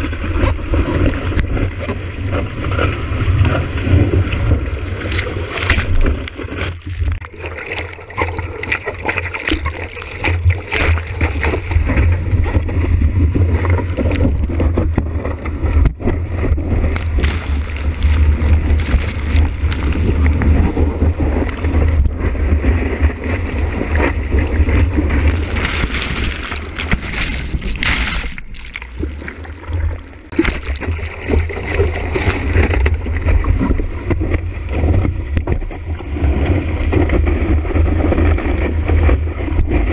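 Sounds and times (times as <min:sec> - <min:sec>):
water rushing and splashing: 0:00.0 - 0:39.9
wind rumble on microphone: 0:00.0 - 0:39.9.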